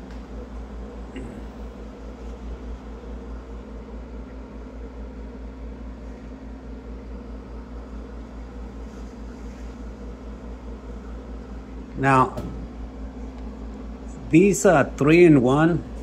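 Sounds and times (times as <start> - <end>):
compressor humming: 0.0 - 16.0.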